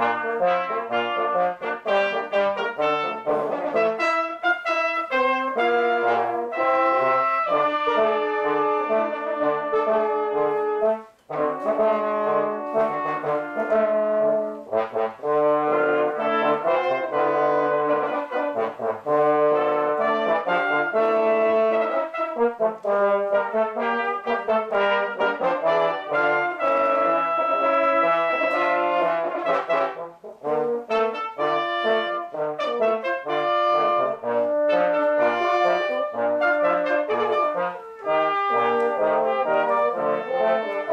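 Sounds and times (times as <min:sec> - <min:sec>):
brass ensemble playing chords: 0:00.0 - 0:40.9.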